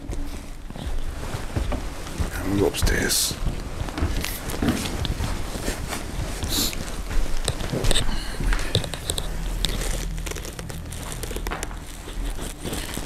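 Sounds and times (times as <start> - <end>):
footsteps on stairs: 0.0 - 13.0
low steady hum: 0.0 - 13.0
clicks and thumps: 0.1 - 13.0.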